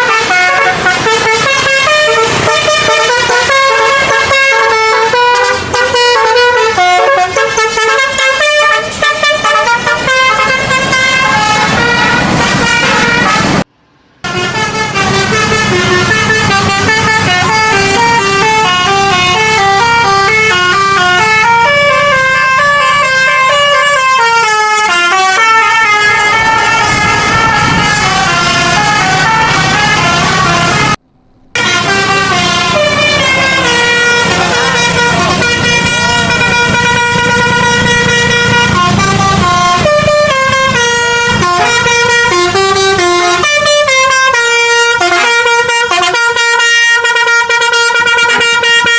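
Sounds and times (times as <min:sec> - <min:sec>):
bus engine rumble: 0:00.0 - 0:48.9
musical bus horn tune: 0:00.0 - 0:48.9.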